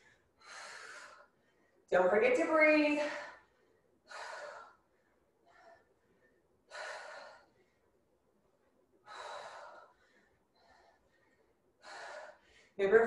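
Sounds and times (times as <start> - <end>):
woman breathing heavily: 0.0 - 1.9, 2.9 - 12.8.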